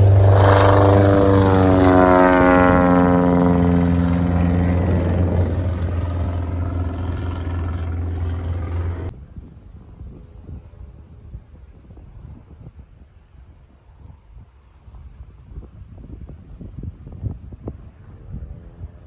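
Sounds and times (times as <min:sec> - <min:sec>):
propeller plane flying overhead: 0:00.0 - 0:19.0.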